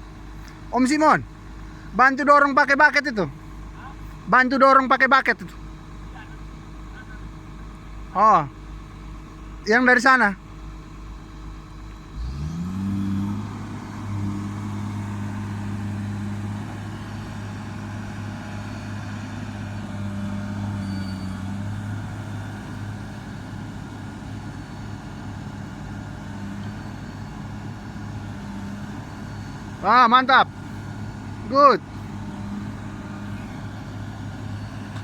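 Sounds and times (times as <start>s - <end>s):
diesel engine running at high revs: 0.0s - 35.0s.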